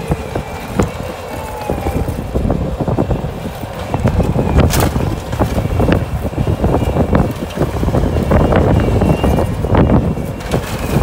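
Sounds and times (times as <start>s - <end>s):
loader engine under load: 0.0s - 11.0s.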